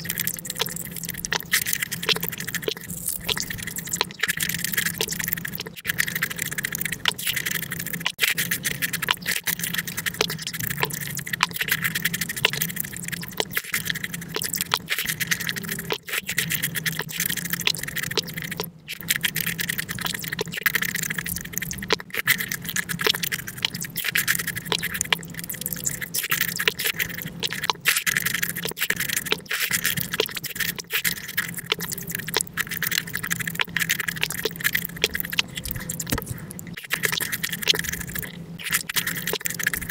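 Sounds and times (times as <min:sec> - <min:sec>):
sped-up fruit chewing and smacking: 0:00.0 - 0:39.9.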